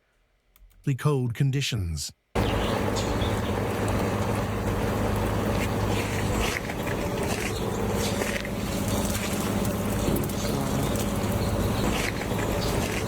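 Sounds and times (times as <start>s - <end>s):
light crackles and ticks: 2.4s - 13.0s
low motor hum: 2.4s - 13.0s.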